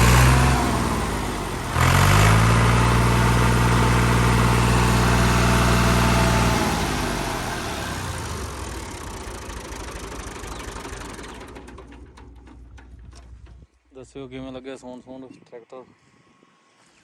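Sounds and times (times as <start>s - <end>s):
tractor diesel engine running: 0.0s - 13.7s.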